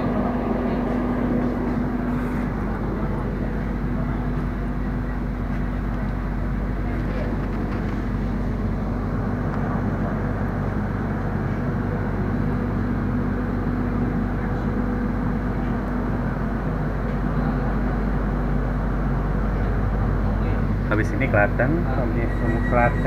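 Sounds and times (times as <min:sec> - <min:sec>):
train hum and rumble: 0:00.0 - 0:23.0.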